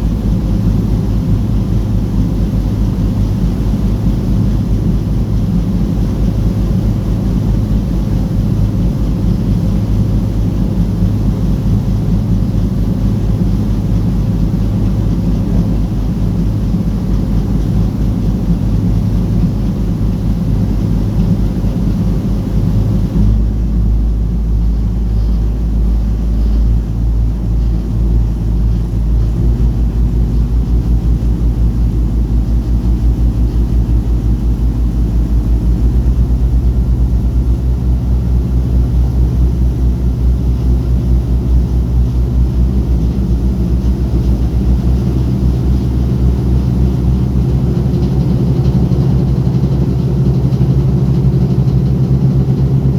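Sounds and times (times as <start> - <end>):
diesel engine throbbing: 0.0 - 52.9.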